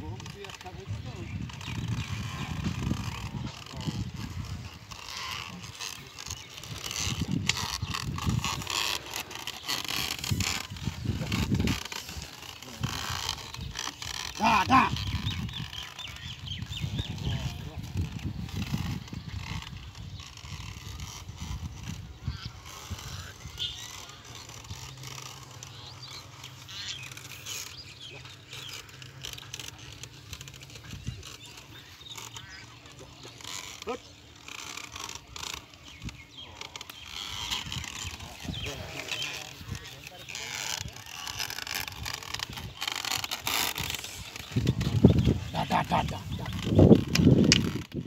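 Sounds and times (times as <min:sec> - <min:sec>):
faint outdoor rustle: 0:00.0 - 0:48.0
plough scraping through soil: 0:00.0 - 0:48.0
scratchy clicks: 0:00.0 - 0:48.0
small birds chirping: 0:00.0 - 0:48.0.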